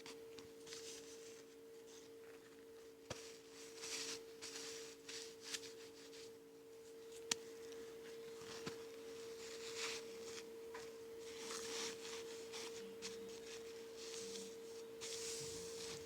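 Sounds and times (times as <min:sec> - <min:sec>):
steady low hum: 0:00.1 - 0:16.0
soft rustling: 0:00.5 - 0:16.0.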